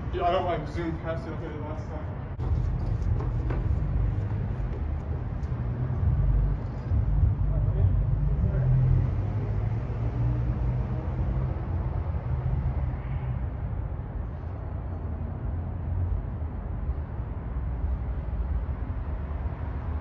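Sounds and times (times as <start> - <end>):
city traffic rumble: 0.0 - 20.0
vehicle engine hum: 2.1 - 20.0.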